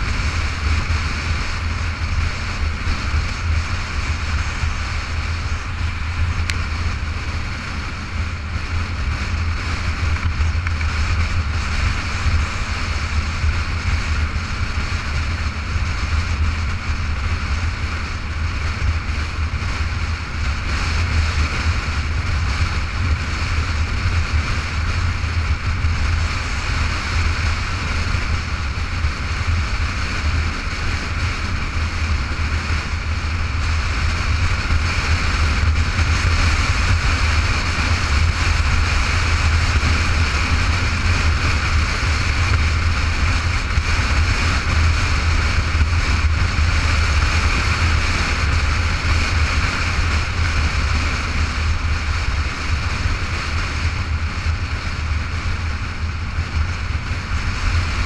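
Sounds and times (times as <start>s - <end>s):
motorcycle engine rumble: 0.0s - 58.0s
wind rush over microphone: 0.0s - 58.0s.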